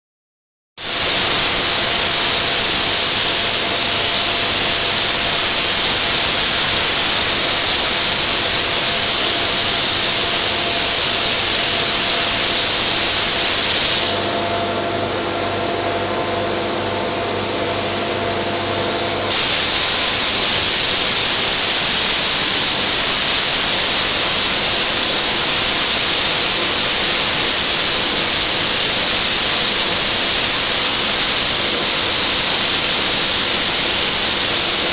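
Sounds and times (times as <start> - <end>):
paint spray gun hissing: 0.8 - 15.8, 16.4 - 34.9.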